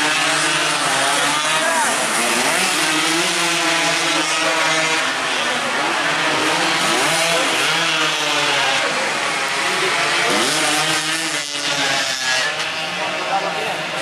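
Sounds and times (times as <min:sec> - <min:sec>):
racing motorcycles buzzing: 0:00.0 - 0:14.0.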